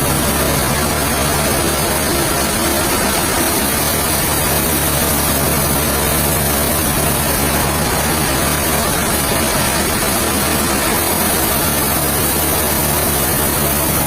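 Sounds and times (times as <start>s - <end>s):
engine low hum: 0.0s - 14.0s
loud constant hiss: 0.0s - 14.0s.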